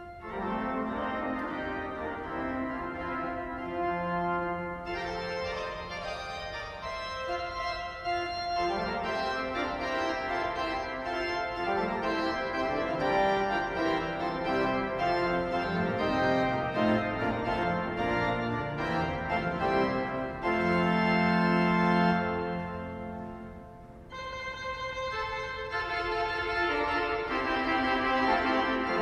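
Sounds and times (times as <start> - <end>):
pipe organ playing: 0.0 - 29.0.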